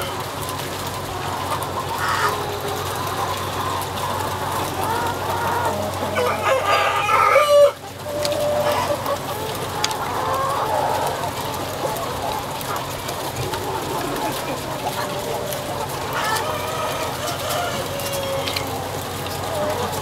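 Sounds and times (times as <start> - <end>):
chickens clucking and calling: 0.0 - 20.0.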